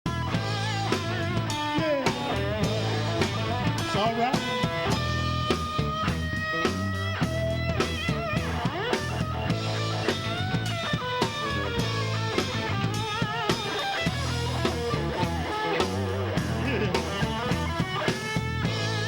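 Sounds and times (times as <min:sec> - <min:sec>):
drums: 0:00.0 - 0:19.0
electric guitar with bent notes: 0:00.0 - 0:19.0
bass line: 0:00.1 - 0:19.0.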